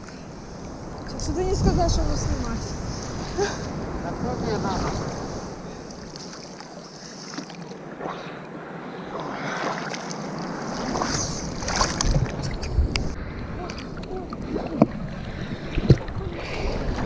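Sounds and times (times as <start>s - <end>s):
wind buffeting microphone: 0.0s - 6.4s, 7.6s - 17.0s
sea water sloshing and splashing: 2.2s - 17.0s.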